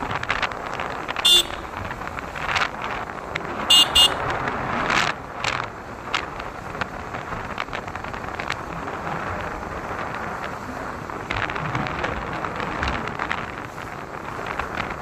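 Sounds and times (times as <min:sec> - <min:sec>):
motorcycle running: 0:00.0 - 0:15.0
road noise: 0:00.0 - 0:15.0
wind on microphone: 0:00.0 - 0:15.0.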